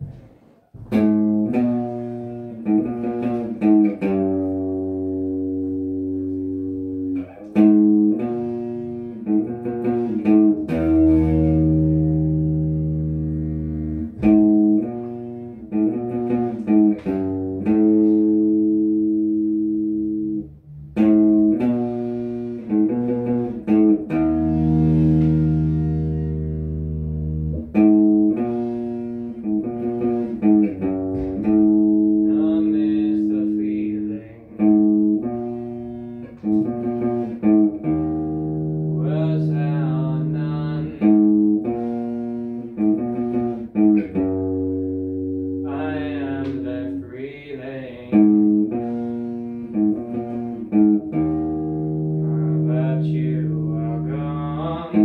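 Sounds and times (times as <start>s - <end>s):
electric guitar strumming chords: 0.8s - 55.0s.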